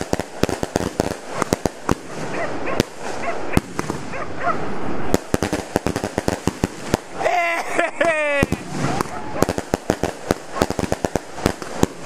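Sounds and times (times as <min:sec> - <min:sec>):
fireworks bangs: 0:00.0 - 0:12.0
fireworks hiss: 0:00.0 - 0:12.0.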